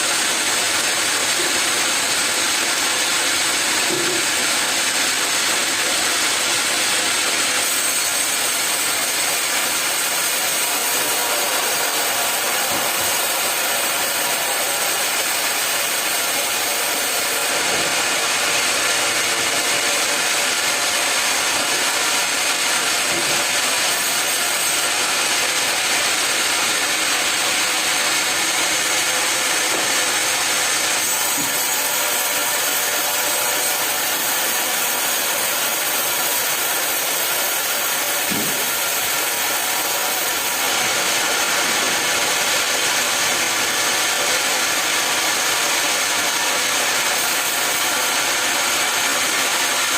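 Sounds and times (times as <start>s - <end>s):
sawmill saw cutting log: 0.0s - 49.9s.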